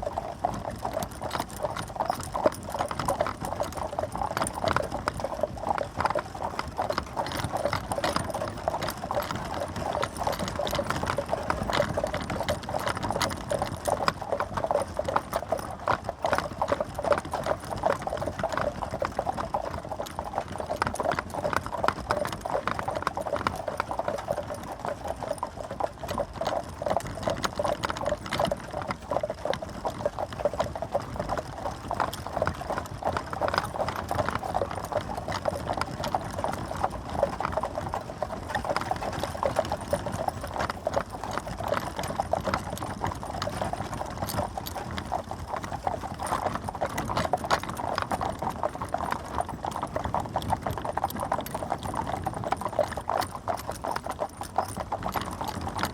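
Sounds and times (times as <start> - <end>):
horse hooves clip-clopping: 0.0 - 55.9.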